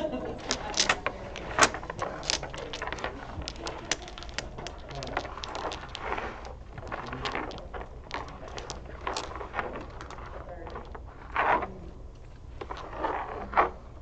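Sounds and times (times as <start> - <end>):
dominoes clacking on wooden table: 0.4 - 11.7, 12.6 - 13.8.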